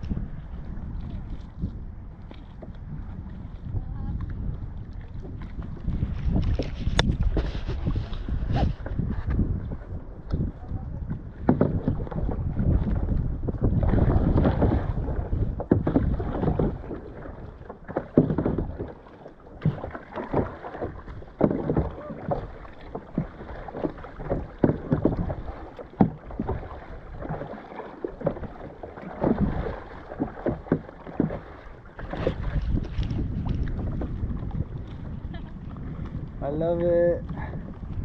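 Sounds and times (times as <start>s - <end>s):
paddle strokes splashing: 0.0s - 38.0s
wind buffeting microphone: 0.0s - 38.0s
water slapping board: 1.0s - 38.0s.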